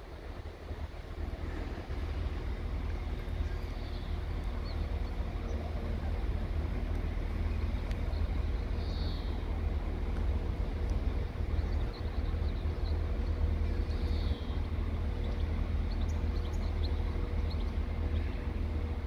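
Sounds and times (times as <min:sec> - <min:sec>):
faint constant hum: 0:00.0 - 0:19.0.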